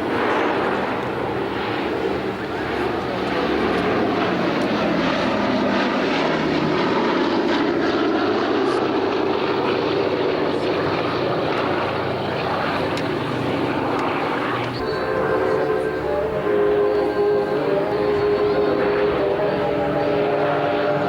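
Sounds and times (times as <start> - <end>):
propeller aircraft engines droning: 0.0 - 21.0.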